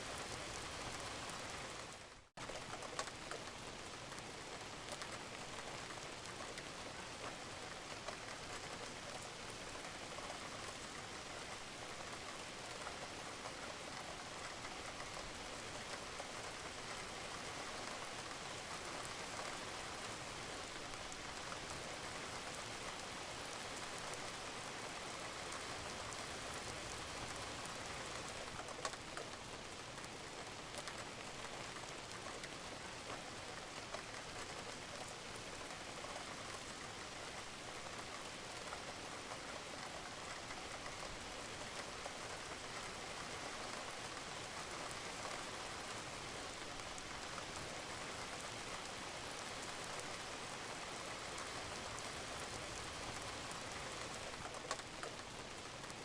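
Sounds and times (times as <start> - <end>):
rain falling on a roof: 0.0 - 56.0.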